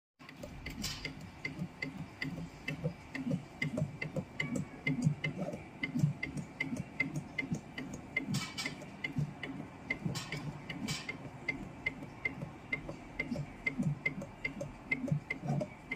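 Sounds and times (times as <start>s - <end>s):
low mechanical hum: 0.2s - 15.9s
machine ticking: 0.2s - 15.9s.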